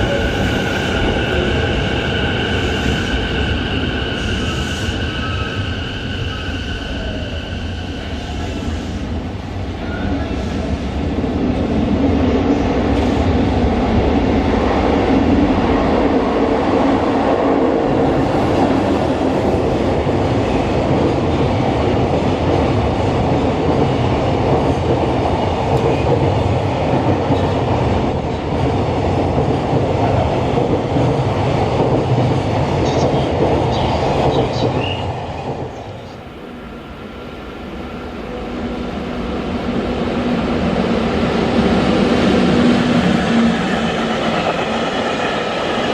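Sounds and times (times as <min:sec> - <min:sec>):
freight train wheels on rails: 0:00.0 - 0:45.9.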